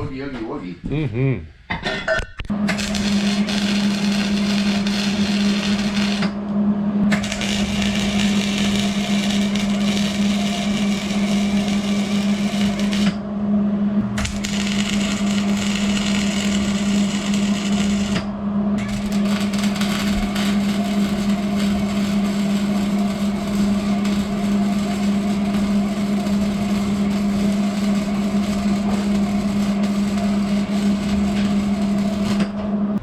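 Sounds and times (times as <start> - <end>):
steady hum: 2.4 - 33.0
welding arc crackling: 2.7 - 6.3, 7.1 - 13.2, 14.1 - 32.5.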